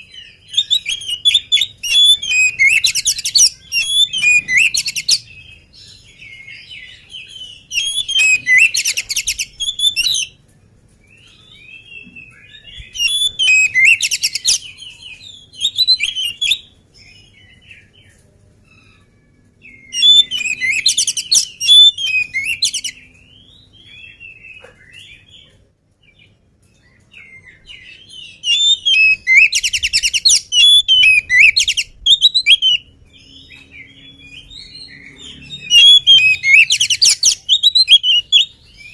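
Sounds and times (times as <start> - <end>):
bird chirps: 0.0 - 10.4, 11.1 - 38.9
bird singing whistles and trills: 0.0 - 10.4, 11.2 - 17.9, 19.0 - 25.2, 26.9 - 38.9.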